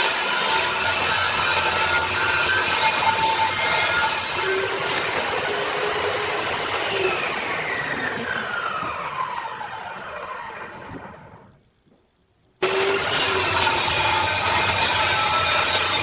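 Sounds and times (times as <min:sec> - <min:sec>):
power tool motor whine: 0:00.0 - 0:11.4, 0:12.6 - 0:16.0.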